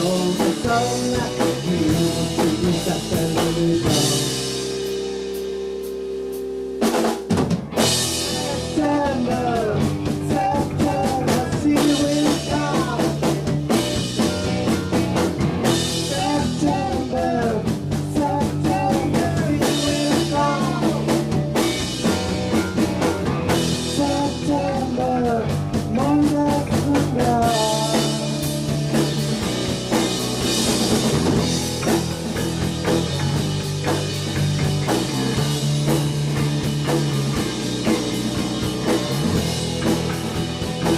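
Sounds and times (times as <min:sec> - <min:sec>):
drum kit beat: 0:00.0 - 0:40.9
rock band playing: 0:00.0 - 0:40.9.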